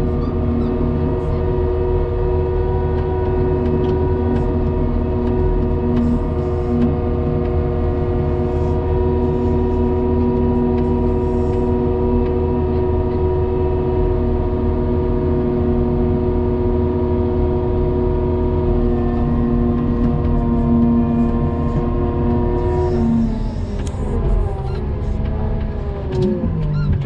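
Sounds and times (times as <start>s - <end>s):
snow plow engine running: 0.0s - 27.0s.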